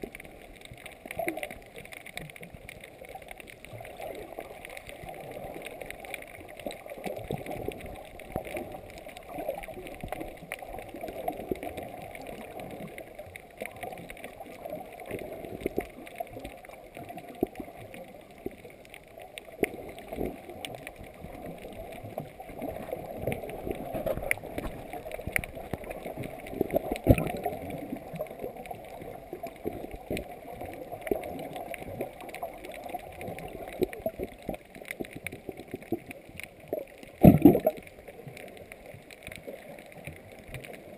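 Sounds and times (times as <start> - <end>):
clicks and crackles: 0.0 - 40.9
underwater sea water sloshing: 0.0 - 40.9.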